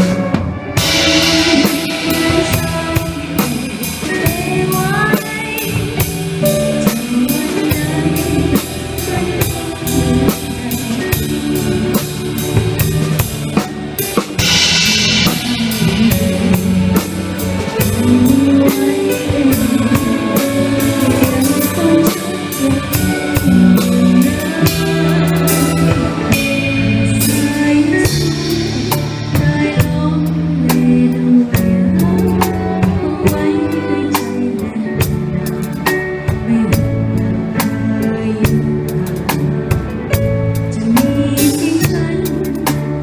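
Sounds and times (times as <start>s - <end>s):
band playing pop music: 0.0s - 43.0s.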